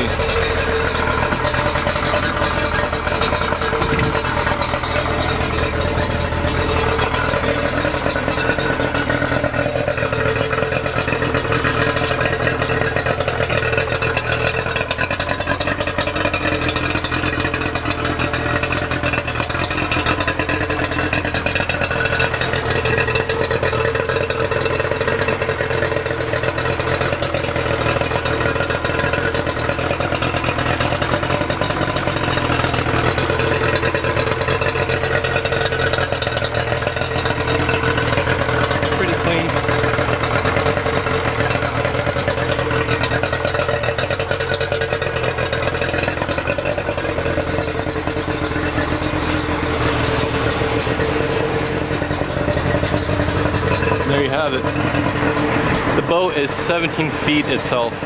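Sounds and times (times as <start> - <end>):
outboard motor idling: 0.0 - 58.0.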